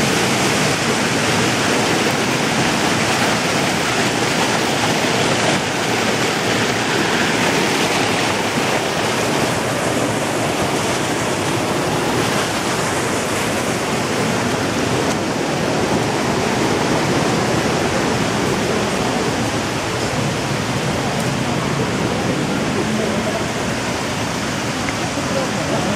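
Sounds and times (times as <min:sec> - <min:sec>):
water rushing over rocks: 0:00.0 - 0:25.9.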